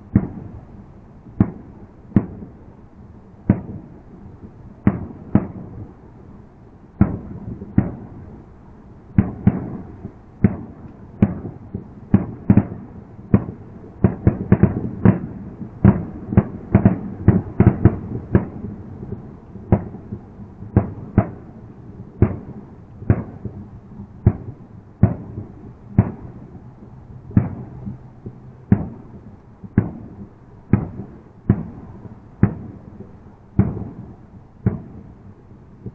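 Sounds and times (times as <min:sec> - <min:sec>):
fireworks bangs with rumble: 0:00.0 - 0:02.7, 0:03.4 - 0:06.0, 0:07.0 - 0:08.4, 0:09.1 - 0:26.6, 0:27.3 - 0:35.2.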